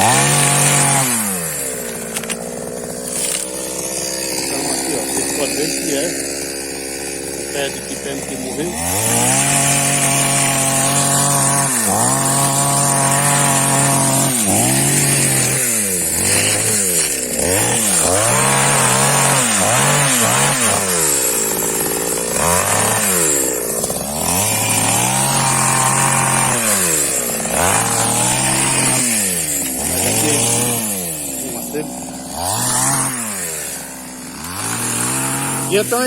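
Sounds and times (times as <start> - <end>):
chainsaw cutting dry wood: 0.0 - 36.0.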